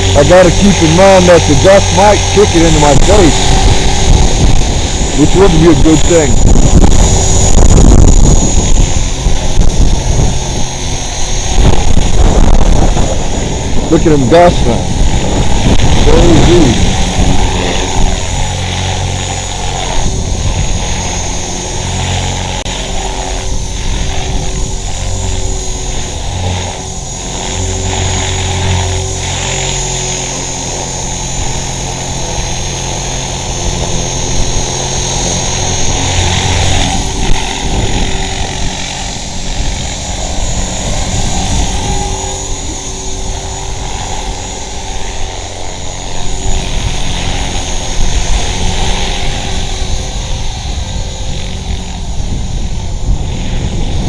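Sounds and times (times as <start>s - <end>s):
rc helicopter hovering: 0.0s - 54.0s
wind rumbling on microphone: 0.0s - 54.0s.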